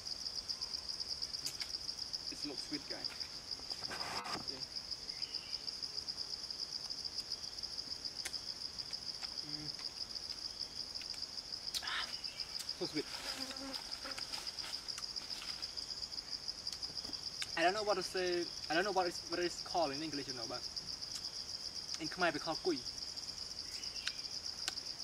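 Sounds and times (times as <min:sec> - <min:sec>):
insect chorus trilling: 0:00.0 - 0:25.0.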